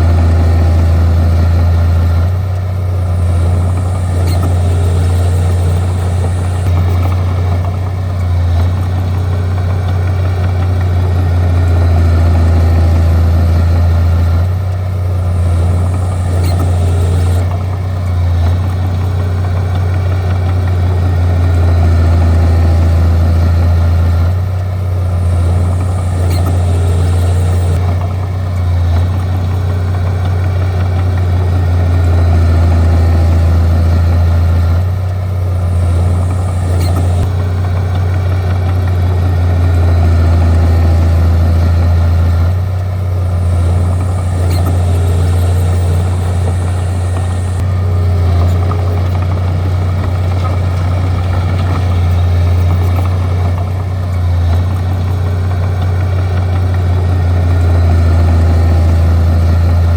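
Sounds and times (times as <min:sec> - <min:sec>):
bulldozer diesel engine humming: 0:00.0 - 0:59.9.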